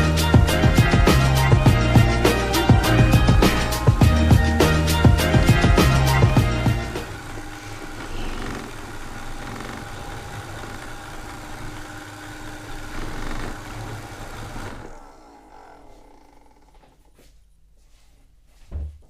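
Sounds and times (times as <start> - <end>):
robot vacuum motor hum: 0.2 - 17.0.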